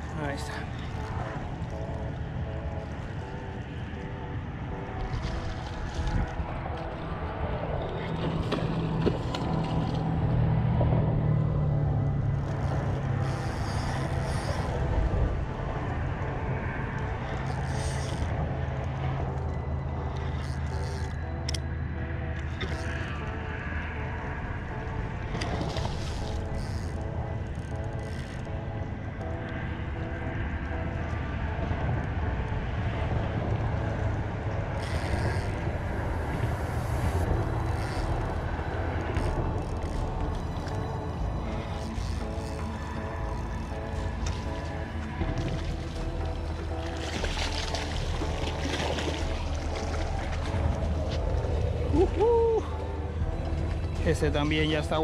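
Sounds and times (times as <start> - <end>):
low engine drone: 0.0 - 55.0
wind rumbling on microphone: 0.0 - 55.0.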